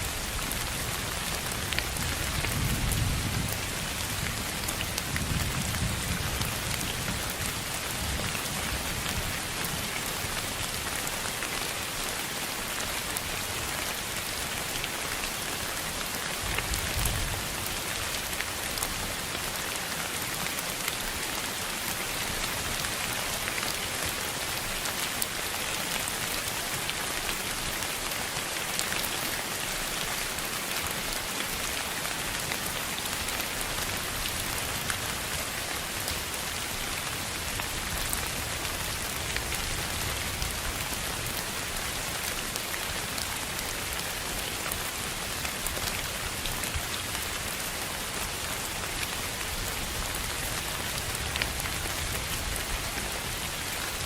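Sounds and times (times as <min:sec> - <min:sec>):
dense hiss of rain-like noise: 0:00.0 - 0:54.0.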